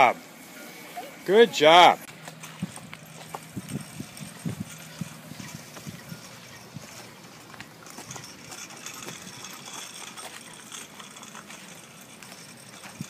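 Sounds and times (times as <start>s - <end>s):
steady outdoor hiss: 0.0s - 13.0s
bicycle clicks and rattles: 1.8s - 13.0s.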